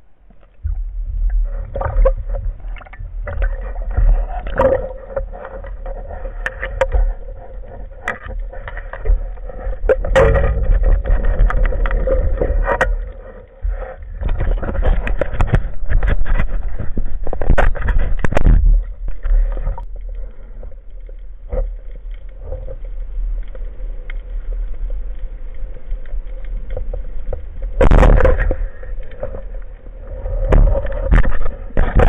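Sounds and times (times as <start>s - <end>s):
muffled underwater noise: 0.0s - 26.6s
water splashing against camera: 0.0s - 32.0s.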